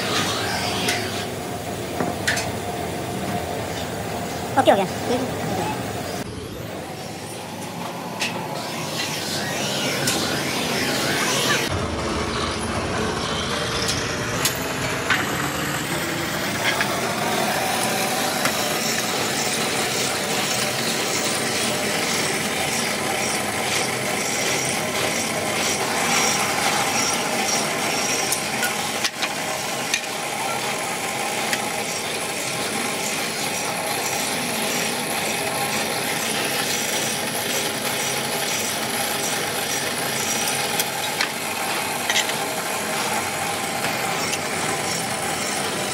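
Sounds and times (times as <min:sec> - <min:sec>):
pillar drill drone: 0:00.0 - 0:45.9.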